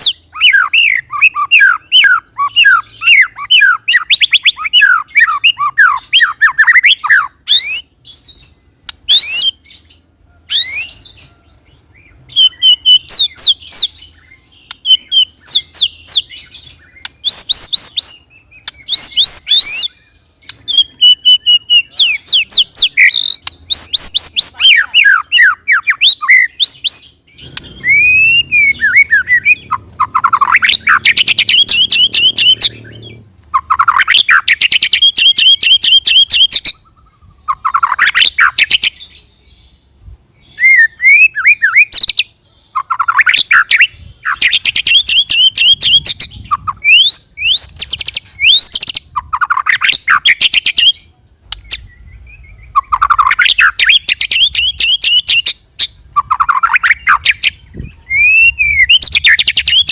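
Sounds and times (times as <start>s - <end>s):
songbird whistling and trilling: 0.0s - 39.6s, 40.4s - 59.9s.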